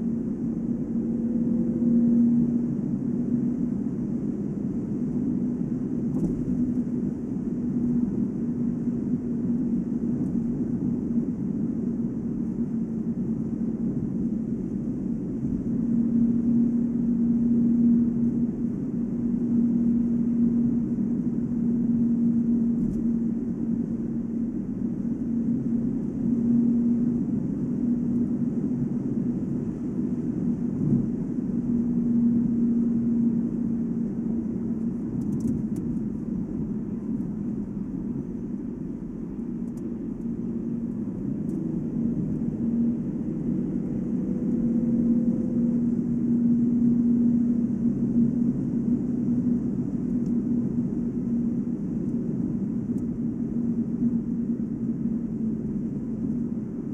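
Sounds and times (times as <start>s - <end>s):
low tyre hum: 0.0s - 56.9s
muffled road noise: 0.0s - 56.9s.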